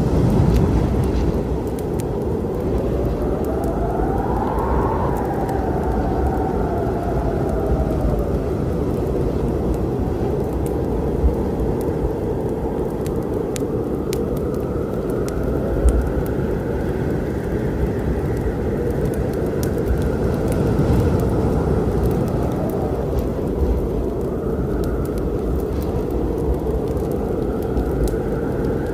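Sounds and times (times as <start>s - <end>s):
low storm rumble: 0.0s - 28.9s
wood fire crackling: 0.0s - 28.9s.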